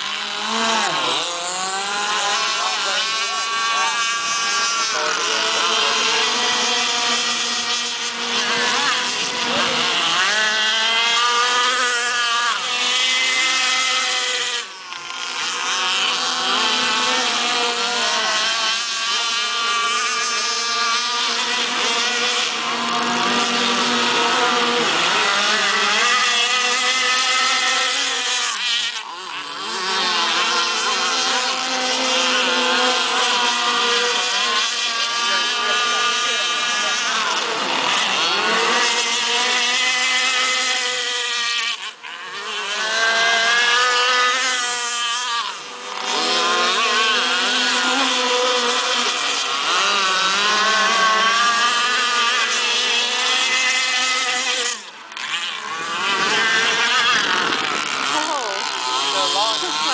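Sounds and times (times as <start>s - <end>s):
small boat engines racing: 0.0s - 59.9s.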